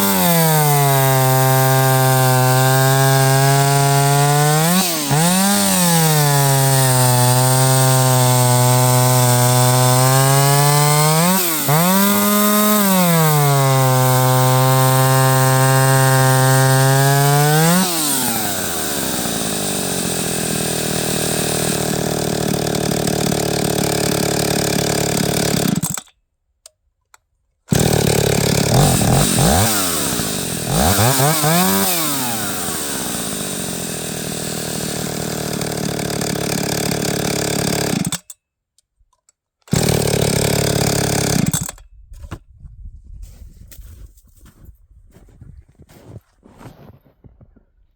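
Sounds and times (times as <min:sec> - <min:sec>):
chainsaw revving: 0:00.0 - 0:26.1, 0:27.7 - 0:38.4, 0:39.7 - 0:41.8.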